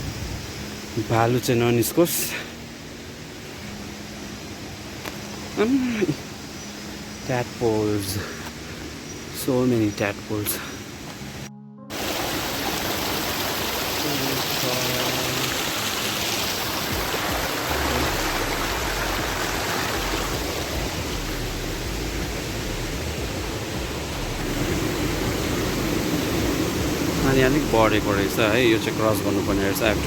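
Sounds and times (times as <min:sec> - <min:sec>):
mountain stream rushing: 0:00.6 - 0:30.0.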